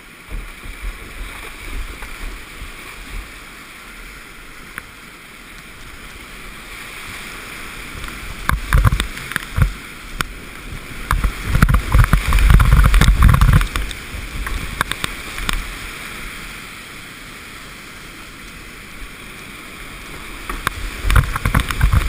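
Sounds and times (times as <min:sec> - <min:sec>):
water buffeting over camera: 0:00.0 - 0:05.0, 0:05.7 - 0:16.8, 0:18.8 - 0:22.0
rushing splashing water: 0:00.0 - 0:22.0.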